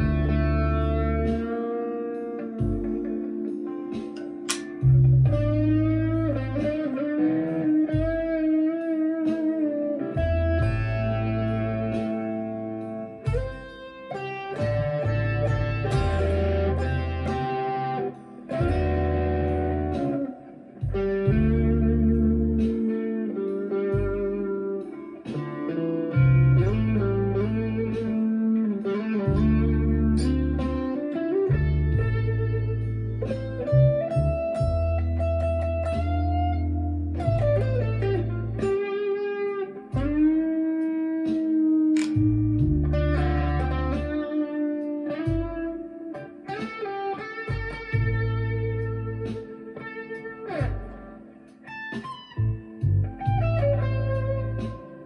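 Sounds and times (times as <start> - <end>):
overdriven electric guitar notes: 0.0 - 55.0.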